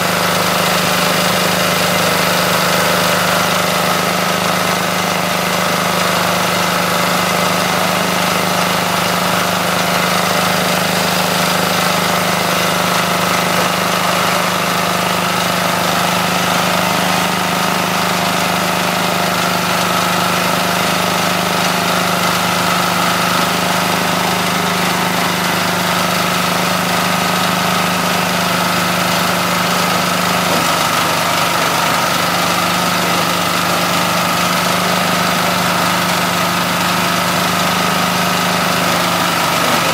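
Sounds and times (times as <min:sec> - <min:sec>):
shredder shredding fronds: 0:00.0 - 0:39.9
small diesel engine running: 0:00.0 - 0:39.9.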